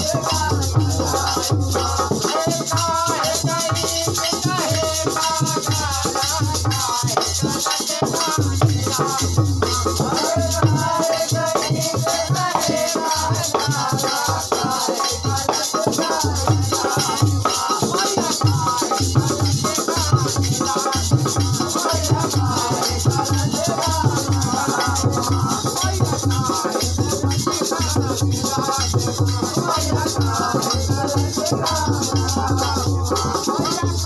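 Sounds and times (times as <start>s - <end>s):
group of men singing folk song: 0.0s - 34.0s
jingling shaker percussion: 0.0s - 34.0s.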